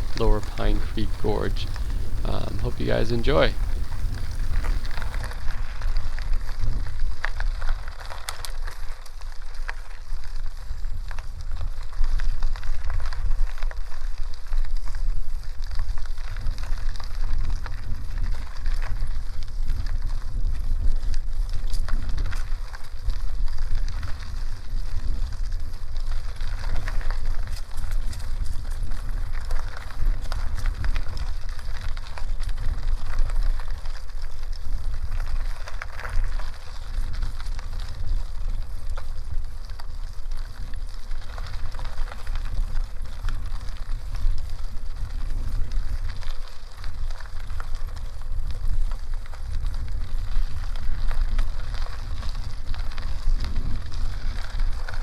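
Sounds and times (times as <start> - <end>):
bicycle tyres crunching gravel: 0.0 - 55.0
wind rumble on microphone: 0.0 - 55.0.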